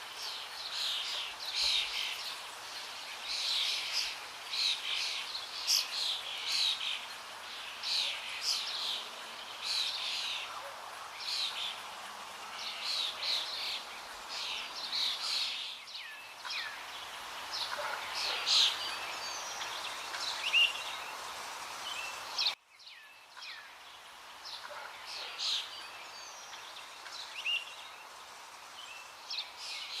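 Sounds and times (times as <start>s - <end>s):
light background noise: 0.0s - 30.0s.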